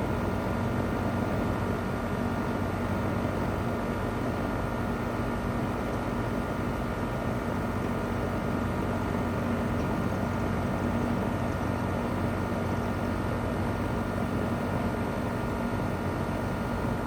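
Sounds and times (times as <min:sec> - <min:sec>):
compressor humming: 0:00.0 - 0:17.0
fan rushing air: 0:00.0 - 0:17.0.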